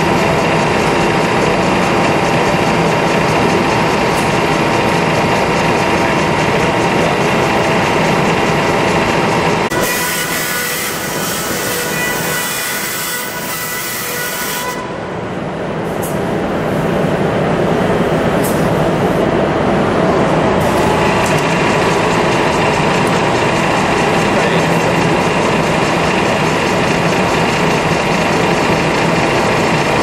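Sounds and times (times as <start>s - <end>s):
shoemaking machine running: 0.0s - 30.0s.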